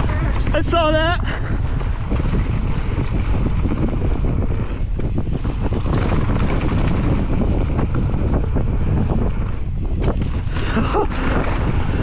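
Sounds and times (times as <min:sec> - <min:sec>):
bike tyres rattling over dirt: 0:00.0 - 0:12.0
wind rushing over microphone: 0:00.0 - 0:12.0.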